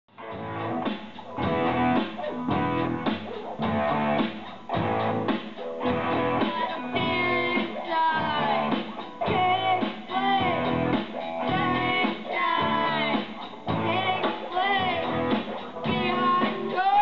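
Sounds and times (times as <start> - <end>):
bending lead guitar: 0.2 - 17.0
rock band playing live: 0.2 - 17.0.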